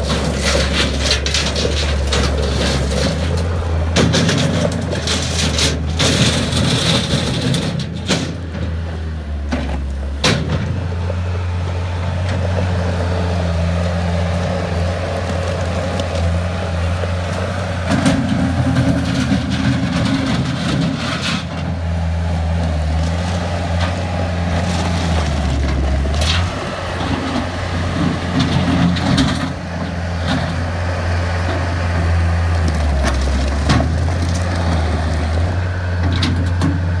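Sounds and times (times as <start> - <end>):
diesel engine running: 0.0 - 37.0
gravel clicking under tyres: 0.0 - 37.0.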